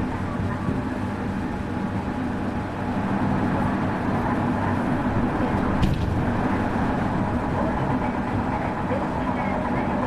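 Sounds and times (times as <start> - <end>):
train wheel and rail noise: 0.0 - 10.0.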